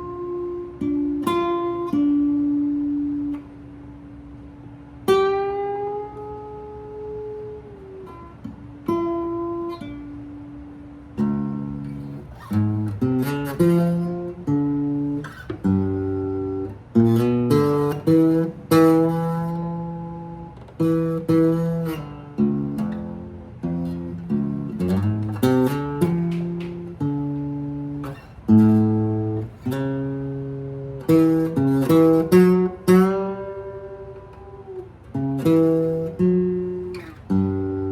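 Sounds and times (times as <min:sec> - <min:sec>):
solo guitar playing: 0:00.0 - 0:37.9.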